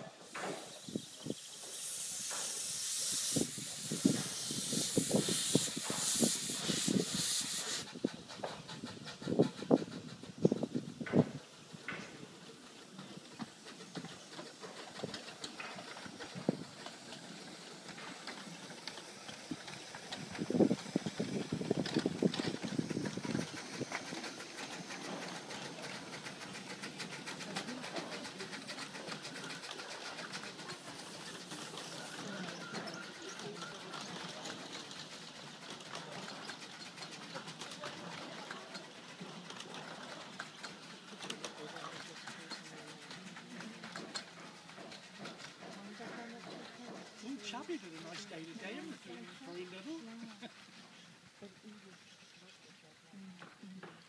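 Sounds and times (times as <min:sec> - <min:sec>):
steam hissing: 0:00.0 - 0:53.5.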